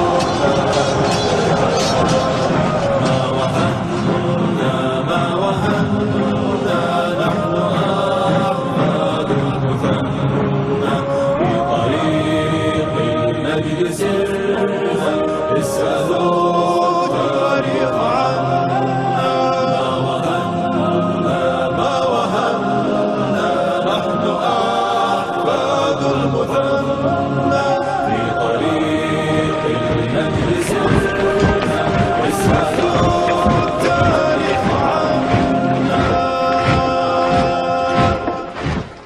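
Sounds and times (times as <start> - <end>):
wordless vocal chorus chanting: 0.0 - 39.0.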